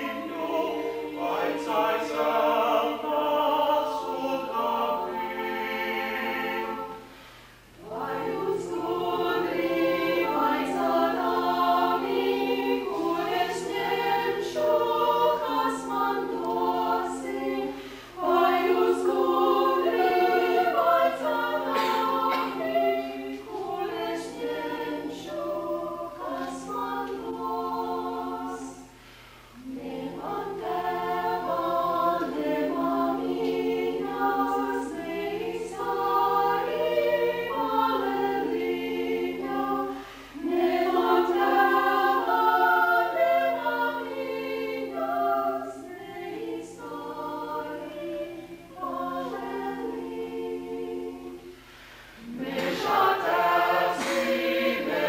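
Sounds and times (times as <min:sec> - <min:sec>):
mixed voices singing a cappella: 0:00.0 - 0:55.0.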